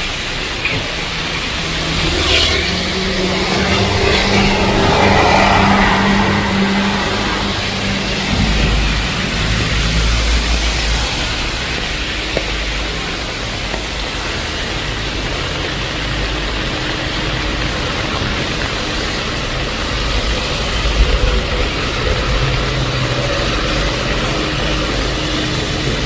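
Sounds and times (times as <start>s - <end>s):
heavy rain falling: 0.0s - 26.0s
vehicle engine idling: 0.0s - 26.0s.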